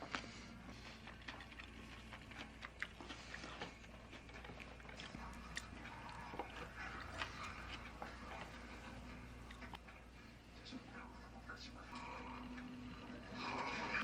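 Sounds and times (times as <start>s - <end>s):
soft chewing: 0.0s - 14.0s.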